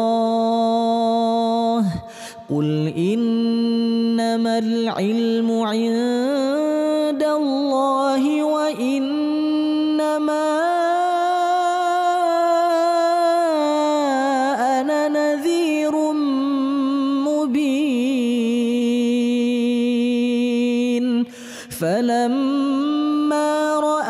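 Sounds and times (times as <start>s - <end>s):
person reciting melodically: 0.0s - 24.0s.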